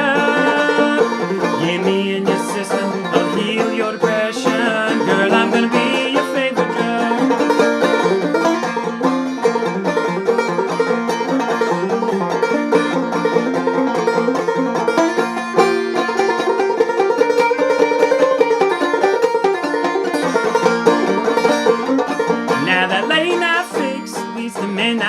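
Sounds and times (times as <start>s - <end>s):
banjo plucked notes: 0.0s - 25.0s.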